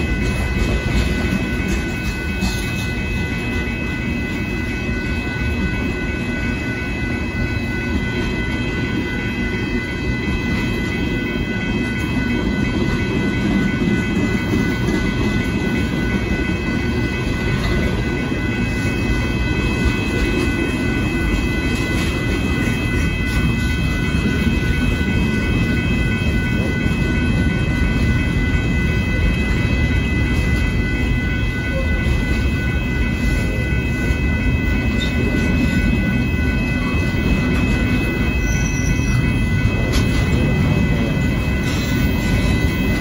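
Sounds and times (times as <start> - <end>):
freight train wheels rumbling: 0.0 - 43.0
high-pitched ringing: 0.0 - 43.0.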